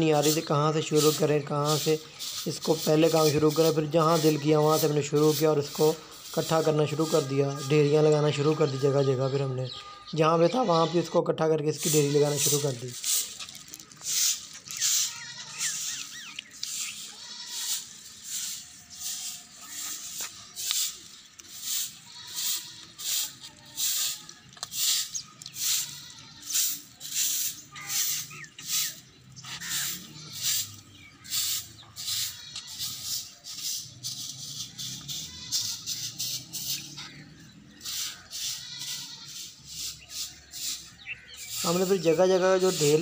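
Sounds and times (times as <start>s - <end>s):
broom sweeping dry leaves: 0.0s - 8.2s, 11.8s - 43.0s.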